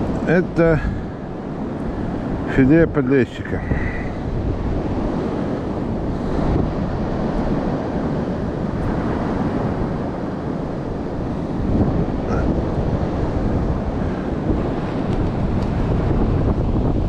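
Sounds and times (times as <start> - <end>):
sea surf: 0.0 - 17.0
wind buffeting microphone: 0.0 - 17.0.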